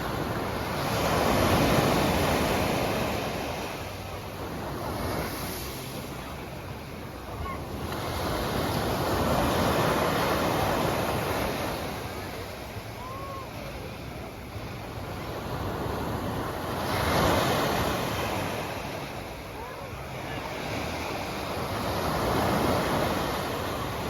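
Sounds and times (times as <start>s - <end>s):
sea waves washing onto shore: 0.0s - 24.0s.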